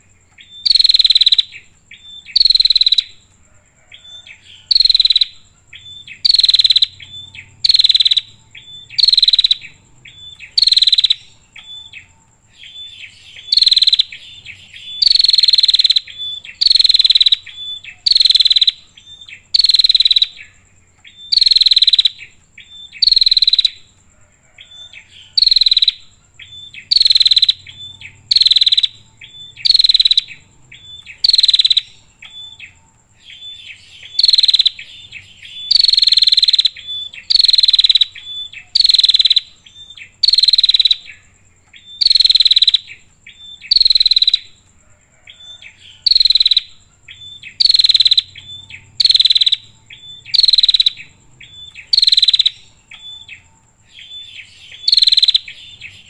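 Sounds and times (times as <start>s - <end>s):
bird calling: 0.0s - 56.0s.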